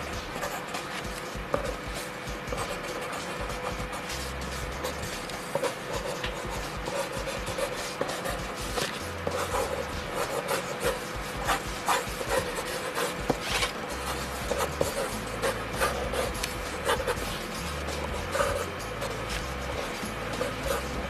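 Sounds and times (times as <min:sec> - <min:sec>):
faint background music: 0:00.0 - 0:21.0
pencil scratching on paper: 0:00.0 - 0:21.0.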